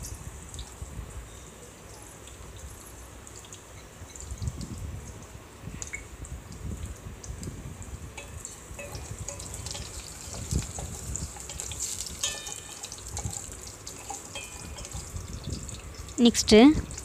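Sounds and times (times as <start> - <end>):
oil sizzling and crackling: 0.0 - 17.0.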